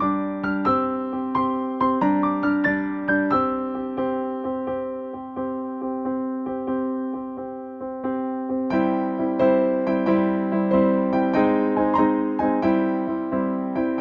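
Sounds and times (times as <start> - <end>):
electric piano music: 0.0 - 14.0.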